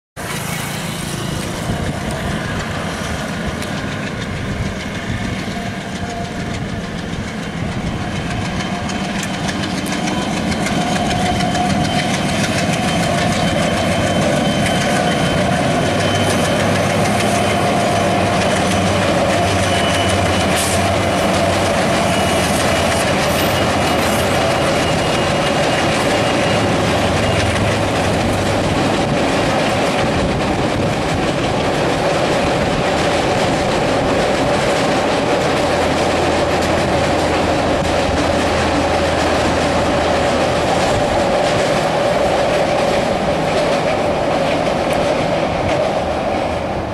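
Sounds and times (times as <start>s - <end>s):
diesel locomotive engine chugging: 0.2s - 46.9s
train wheels clattering over rail joints: 0.2s - 46.9s.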